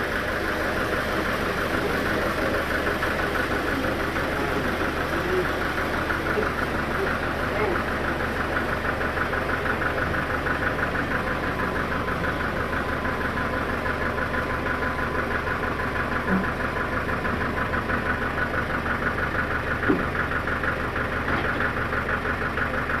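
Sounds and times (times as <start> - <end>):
engine running with pulsing beat: 0.0 - 23.0
short engine knock: 0.2 - 23.0.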